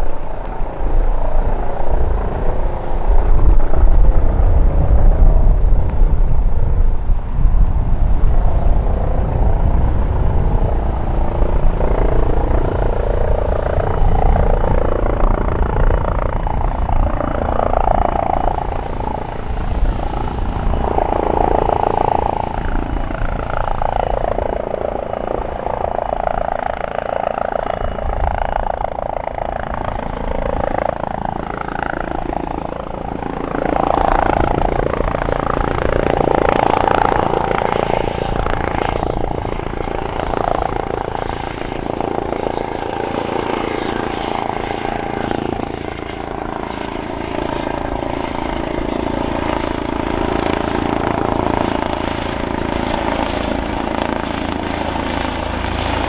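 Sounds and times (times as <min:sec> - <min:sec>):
helicopter rotor and turbine drone: 0:00.0 - 0:56.0.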